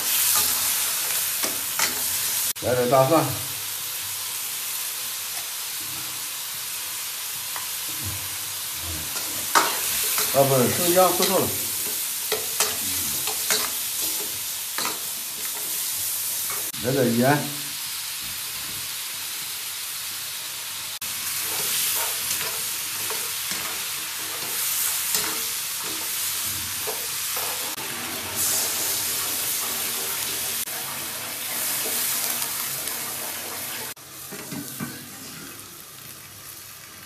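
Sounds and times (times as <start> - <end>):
meat sizzling in a wok: 0.0 - 37.0.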